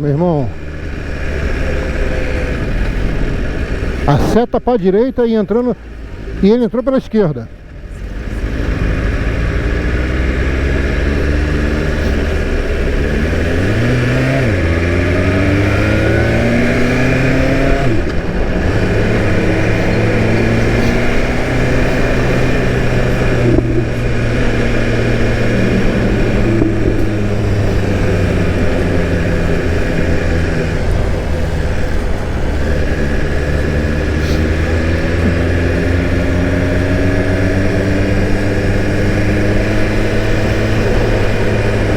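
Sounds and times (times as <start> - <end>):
motorcycle engine revving: 0.0 - 41.9
wind and road noise: 0.0 - 41.9.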